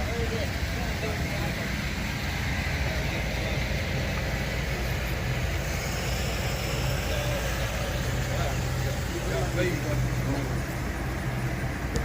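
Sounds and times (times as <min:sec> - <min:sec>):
hiss: 0:00.0 - 0:12.0
motor humming: 0:00.0 - 0:12.0.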